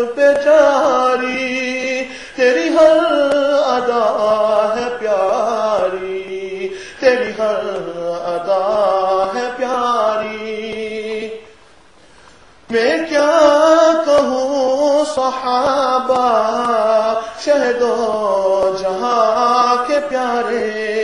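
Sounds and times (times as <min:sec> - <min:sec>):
man chanting: 0:00.0 - 0:11.6, 0:12.7 - 0:21.0.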